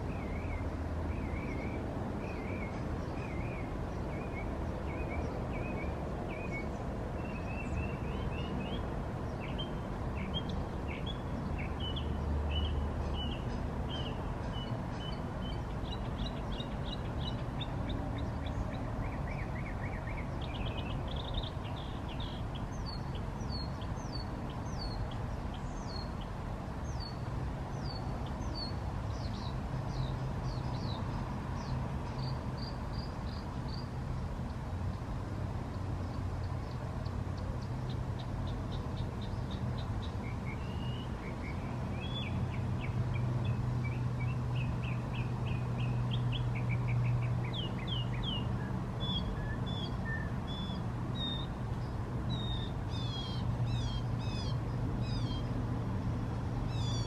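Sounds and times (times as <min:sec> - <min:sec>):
small birds chirping and singing: 0:00.0 - 0:35.0, 0:35.7 - 0:55.6, 0:56.6 - 0:57.0.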